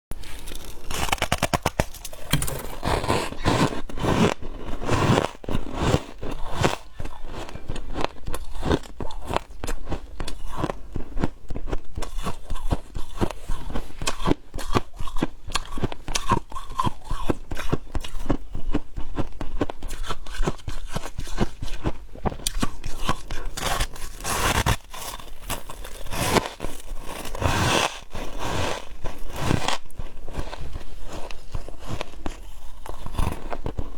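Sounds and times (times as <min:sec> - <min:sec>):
chewing crunchy ice: 0:00.2 - 0:33.9.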